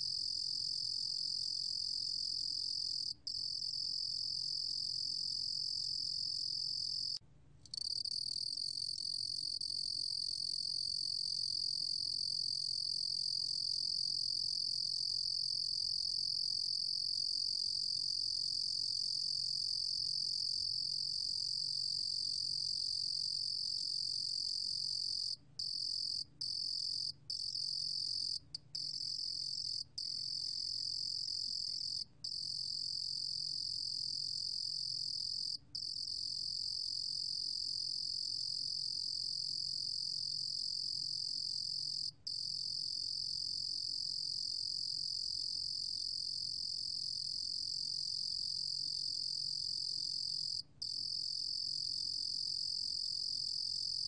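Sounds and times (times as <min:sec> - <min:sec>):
cricket trilling: 0:00.0 - 0:54.0.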